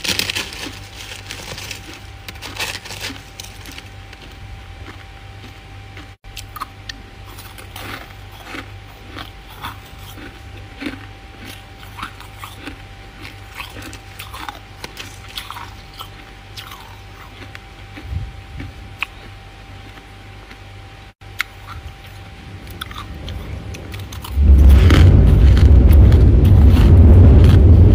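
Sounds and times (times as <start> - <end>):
faint steady hum: 0.0 - 27.9
frost being chewed crunching: 0.0 - 27.9.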